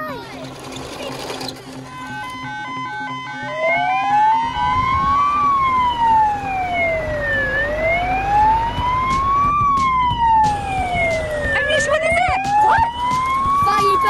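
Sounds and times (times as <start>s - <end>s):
siren wailing: 1.8s - 14.0s.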